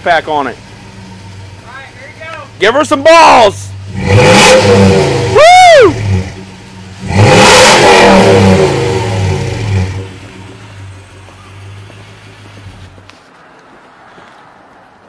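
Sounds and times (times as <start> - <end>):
truck engine revving: 0.0 - 13.1.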